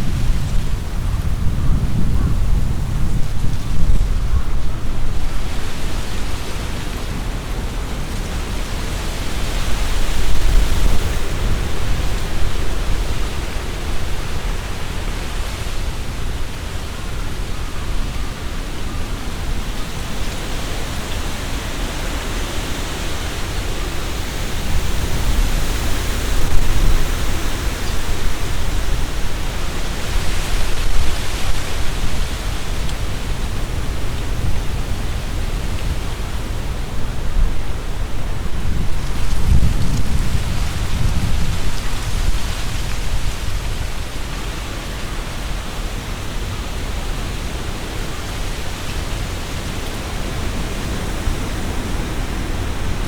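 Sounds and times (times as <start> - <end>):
wind rumble on microphone: 0.0 - 53.0
wind rustling tree leaves: 0.0 - 53.0.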